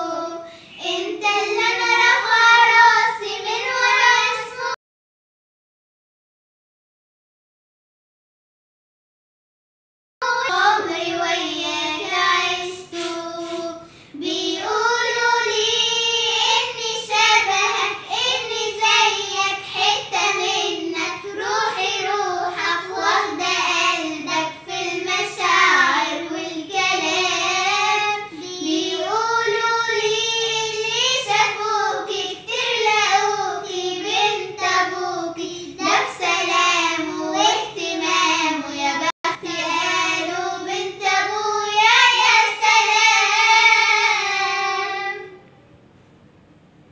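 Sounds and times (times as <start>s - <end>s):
child singing: 0.0s - 4.8s, 10.2s - 45.4s.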